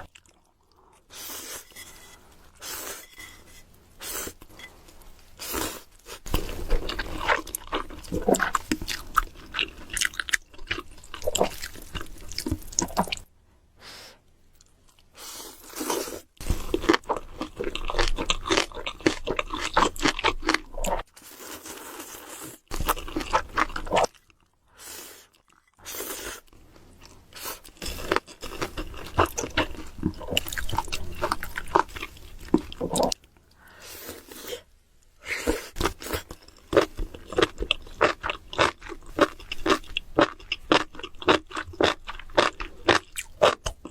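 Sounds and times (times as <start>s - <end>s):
person crunching and chewing food: 0.0s - 1.9s, 4.0s - 13.3s, 14.6s - 34.7s, 35.3s - 43.9s.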